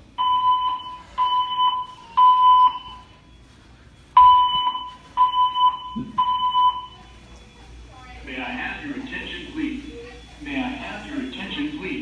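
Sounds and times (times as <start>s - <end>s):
fire alarm high beeps: 0.1s - 11.7s.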